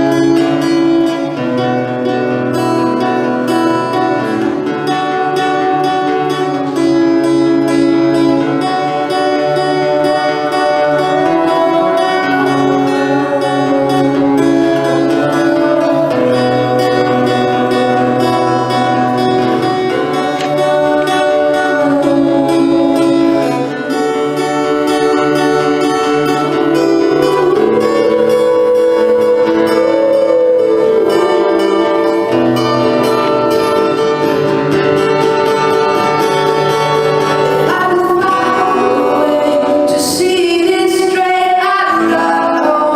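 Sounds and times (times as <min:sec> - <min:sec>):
guitar strummed and picked: 0:00.0 - 0:42.9.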